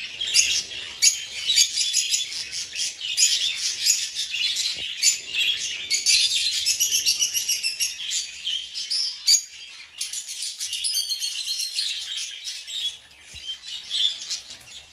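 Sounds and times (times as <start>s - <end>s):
budgies chirping and chattering: 0.0s - 14.9s.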